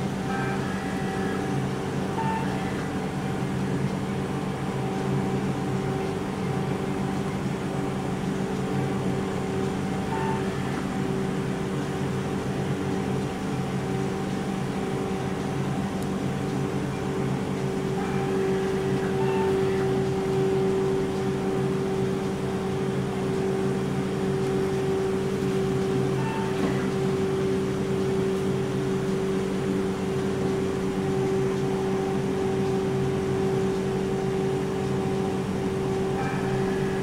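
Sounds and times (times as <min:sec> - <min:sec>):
ice cream machine humming: 0:00.0 - 0:37.0.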